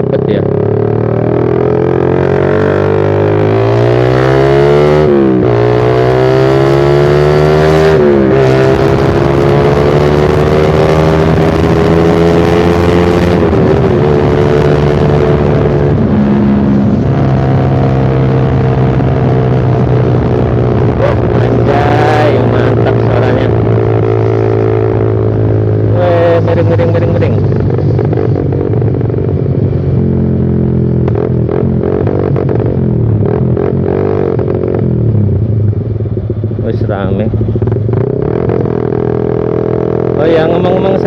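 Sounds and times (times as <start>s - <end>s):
loud motorcycle engine revving: 0.0s - 41.0s.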